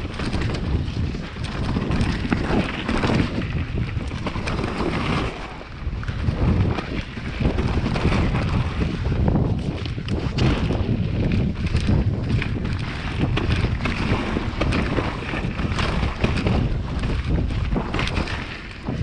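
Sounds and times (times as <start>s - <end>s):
bike knocks and rattles: 0.0s - 5.4s, 6.0s - 19.0s
wind buffeting microphone: 0.0s - 19.0s.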